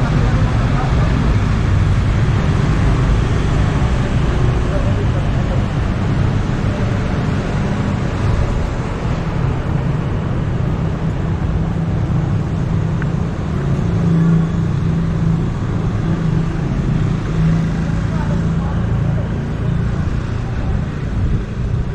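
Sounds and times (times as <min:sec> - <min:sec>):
road noise: 0:00.0 - 0:21.9
vehicle engines passing: 0:00.0 - 0:21.9.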